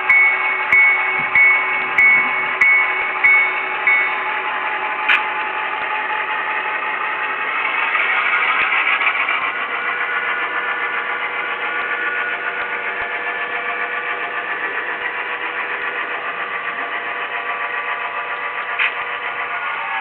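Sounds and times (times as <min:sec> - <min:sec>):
diesel locomotive engine through small speaker: 0:00.0 - 0:20.0.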